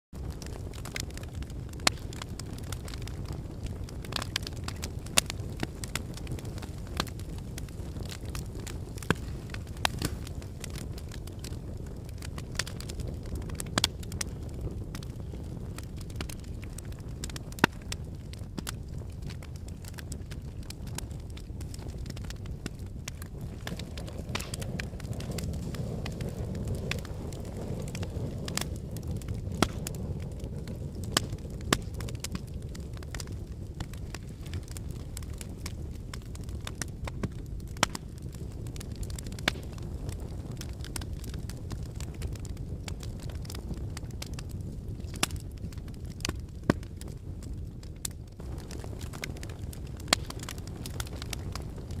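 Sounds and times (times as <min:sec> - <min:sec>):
fire crackling and popping: 0:00.1 - 0:52.0
low rumble of flames: 0:00.1 - 0:52.0.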